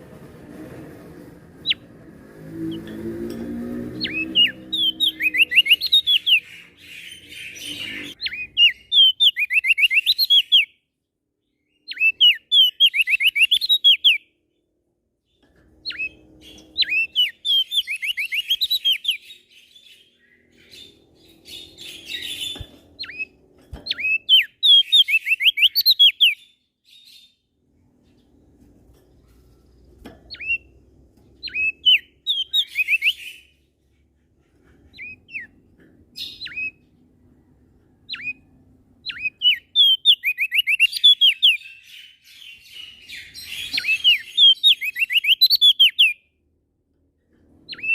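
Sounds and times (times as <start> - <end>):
songbird singing: 2.6 - 46.5, 47.4 - 47.9.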